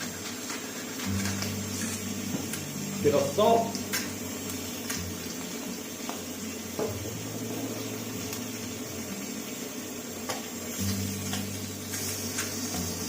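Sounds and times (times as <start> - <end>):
eggs and bacon sizzling: 0.0 - 13.0.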